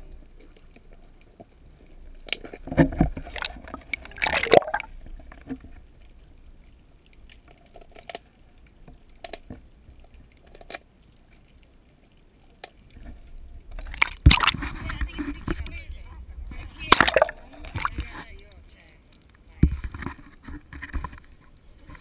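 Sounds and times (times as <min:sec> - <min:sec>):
surges of water noise: 0:00.0 - 0:22.0
water sloshing: 0:00.0 - 0:22.0.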